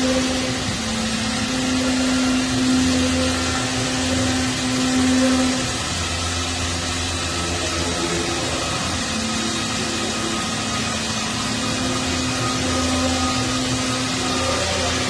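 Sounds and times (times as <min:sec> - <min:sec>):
wood router cutting wood: 0:00.0 - 0:15.0.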